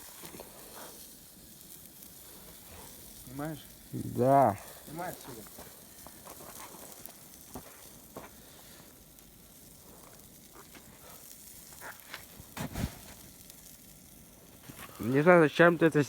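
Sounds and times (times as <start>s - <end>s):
fire crackling: 0.0s - 16.0s
meat sizzling over fire: 0.0s - 16.0s.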